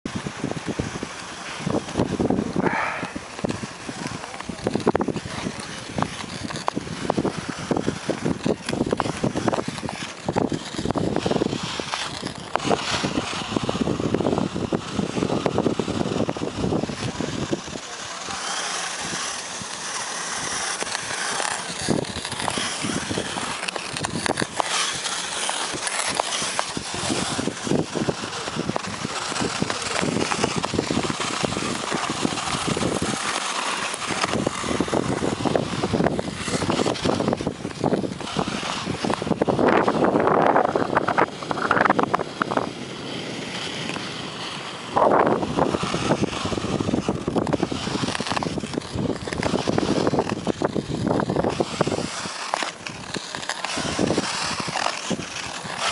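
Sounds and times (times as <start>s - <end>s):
ice skates scraping on ice: 0.1s - 55.9s.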